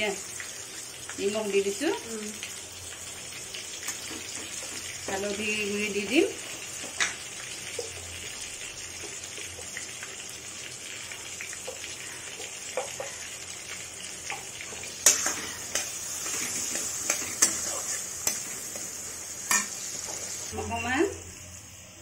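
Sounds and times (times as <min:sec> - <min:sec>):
tomato sizzling in hot oil: 0:00.0 - 0:22.0.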